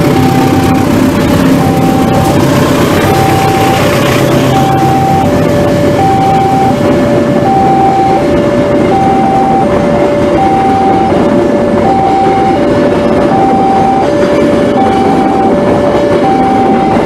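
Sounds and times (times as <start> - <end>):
train wheels on rails: 0.0 - 17.0
two-tone crossing alarm: 0.0 - 17.0.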